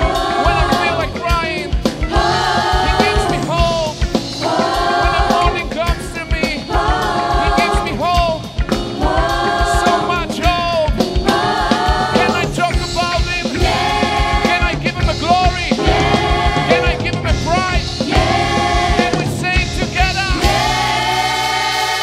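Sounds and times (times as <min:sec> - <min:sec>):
band accompaniment: 0:00.0 - 0:22.0
gospel choir singing: 0:00.0 - 0:22.0
steady drum beat: 0:00.0 - 0:22.0.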